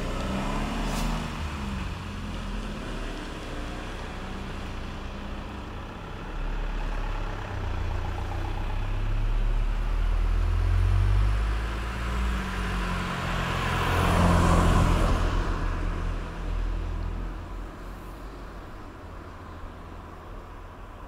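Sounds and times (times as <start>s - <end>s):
bus engine rumble: 0.0s - 21.0s
car passing with tyre noise: 0.0s - 21.0s.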